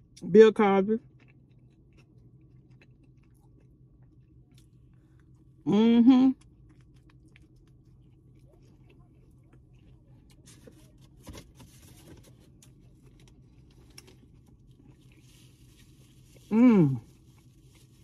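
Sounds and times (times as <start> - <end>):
chewing sandwich: 1.0 - 5.6, 6.4 - 18.0.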